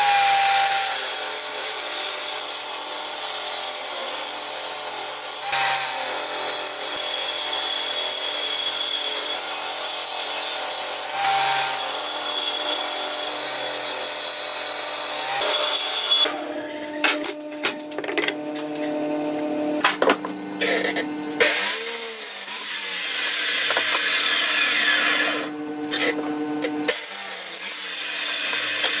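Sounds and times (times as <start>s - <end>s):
power saw cutting wood: 0.0s - 29.0s.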